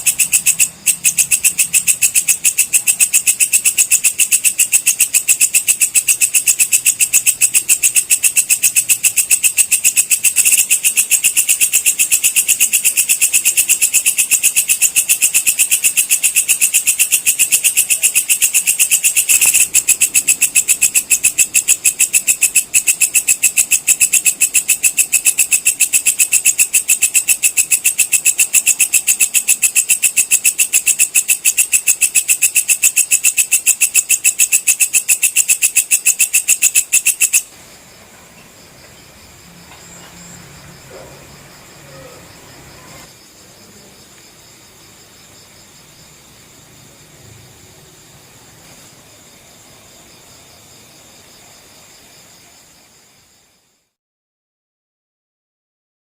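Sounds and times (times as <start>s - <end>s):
faint insect trilling: 0.0s - 54.0s
insect chirping pulses: 0.0s - 54.0s.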